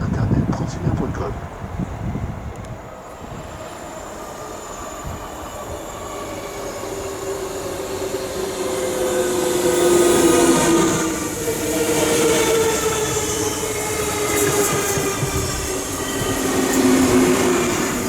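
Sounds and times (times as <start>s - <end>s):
electric train whining: 0.0s - 18.0s
wheels hissing on rails: 2.6s - 18.0s.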